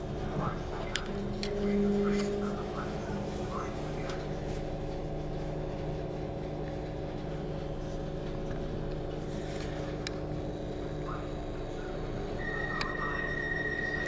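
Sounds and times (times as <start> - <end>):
electric train hum: 0.0 - 14.0
low running rumble: 0.0 - 14.0.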